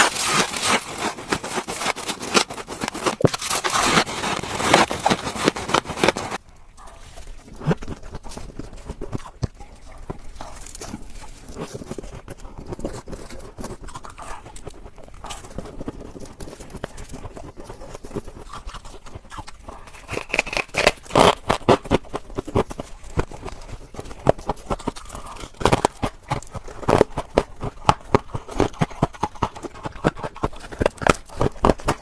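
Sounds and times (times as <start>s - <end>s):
freezer ice scraping and crunching: 0.0s - 32.0s.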